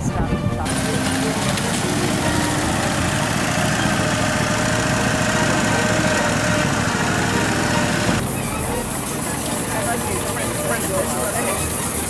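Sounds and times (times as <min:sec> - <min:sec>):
small engine running: 0:00.6 - 0:12.0.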